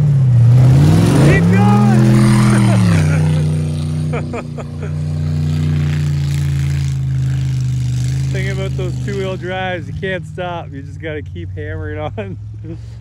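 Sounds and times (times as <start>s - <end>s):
truck engine revving high: 0.0s - 13.0s.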